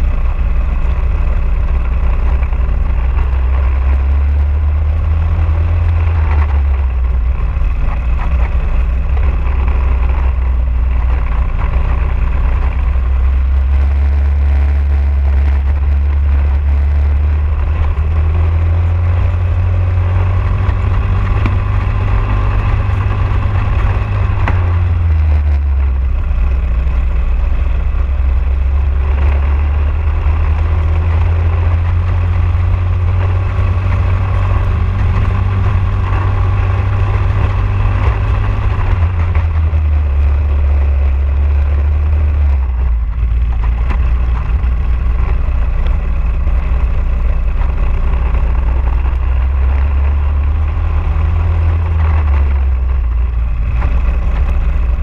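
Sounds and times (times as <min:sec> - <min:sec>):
kart engine at racing speed: 0:00.0 - 0:55.0.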